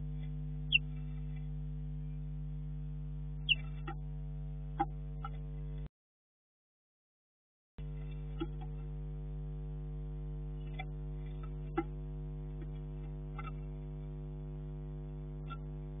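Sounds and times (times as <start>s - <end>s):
electrical mains hum: 0.0s - 5.9s, 7.8s - 16.0s.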